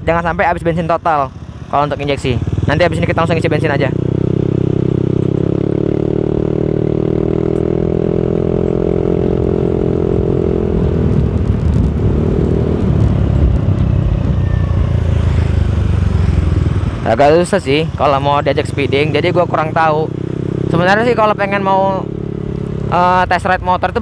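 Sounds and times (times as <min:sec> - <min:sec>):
road and wind rumble: 0:00.0 - 0:24.0
scooter engine drone: 0:00.8 - 0:24.0.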